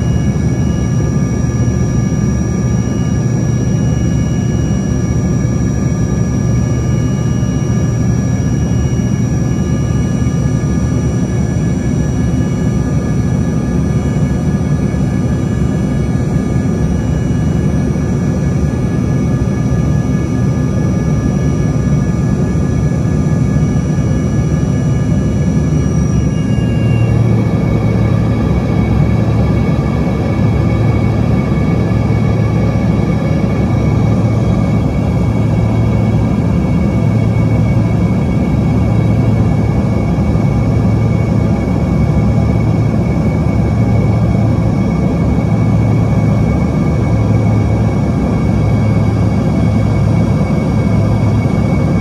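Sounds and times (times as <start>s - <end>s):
jet engine roar: 0.0s - 52.0s.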